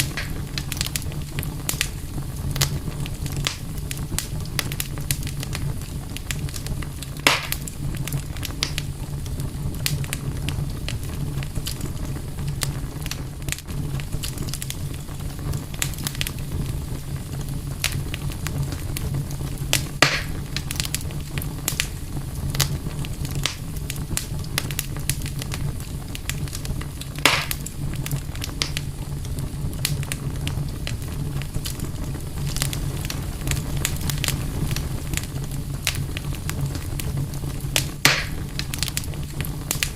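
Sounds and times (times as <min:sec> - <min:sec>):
campfire crackling and popping: 0:00.0 - 0:39.9
loud fire snaps: 0:00.0 - 0:39.9.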